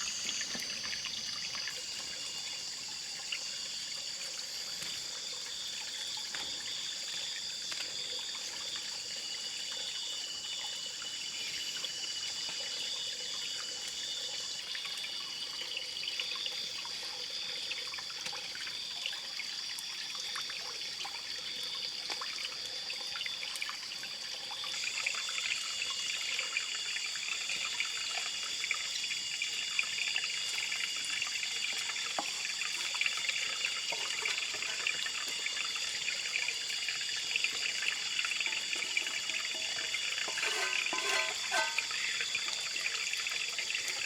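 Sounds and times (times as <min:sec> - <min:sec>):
trickling water: 0:00.0 - 0:44.0.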